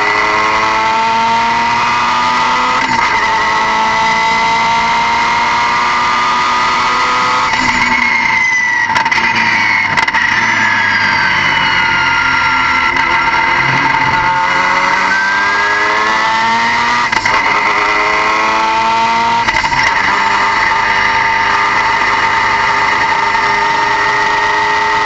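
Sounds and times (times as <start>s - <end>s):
car engine running: 0.2s - 25.0s.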